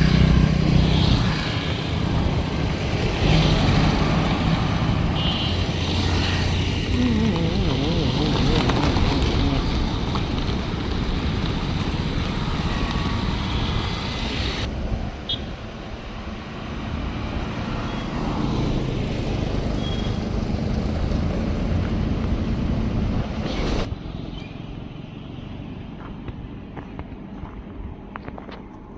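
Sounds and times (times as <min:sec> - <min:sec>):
vehicle engines rumbling: 0:00.0 - 0:28.9.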